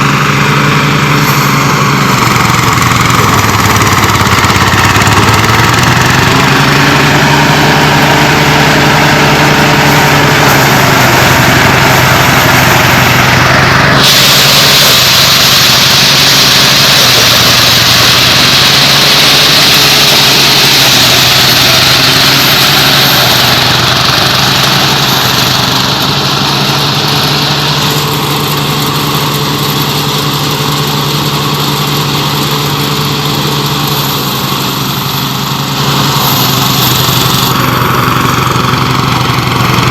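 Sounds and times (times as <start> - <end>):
harvester engine running: 0.0 - 39.9
loud harsh hiss: 0.0 - 39.9.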